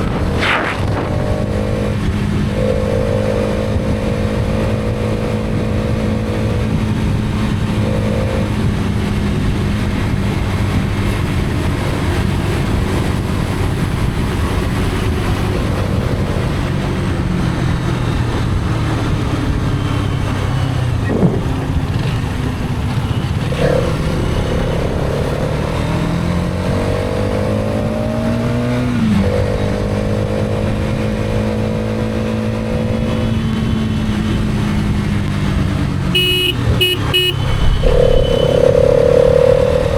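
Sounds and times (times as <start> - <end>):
motorcycle engine running: 0.0 - 27.9, 29.6 - 39.9
wind and road noise: 0.0 - 39.9.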